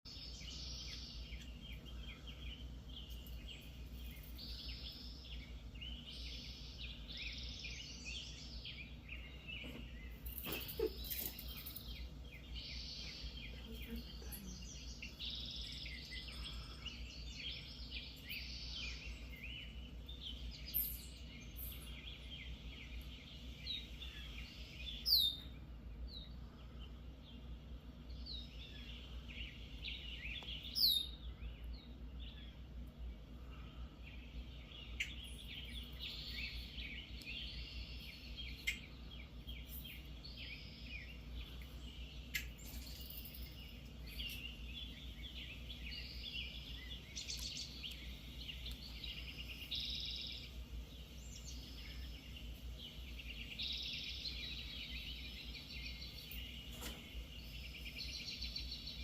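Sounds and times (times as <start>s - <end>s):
small birds chirping: 0.0s - 59.0s
steady low hum: 0.1s - 59.0s.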